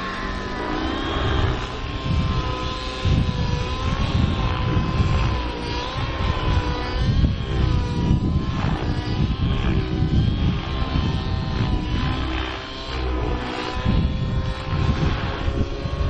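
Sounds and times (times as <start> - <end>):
model plane engine drone: 0.0 - 16.0.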